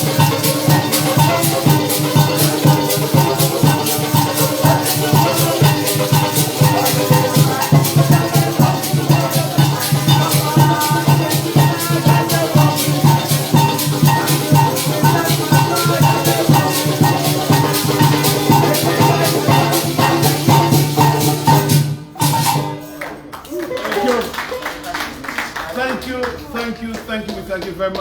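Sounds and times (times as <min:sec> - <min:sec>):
band music with drum: 0:00.0 - 0:23.0
maracas shaking: 0:00.0 - 0:23.3.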